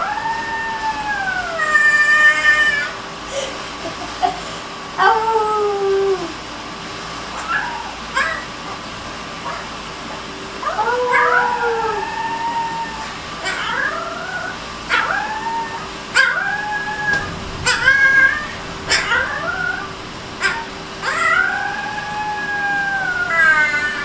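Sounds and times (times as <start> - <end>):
puppy howling: 0.0 - 3.0, 5.0 - 6.4, 7.4 - 8.8, 9.4 - 9.7, 10.6 - 24.0.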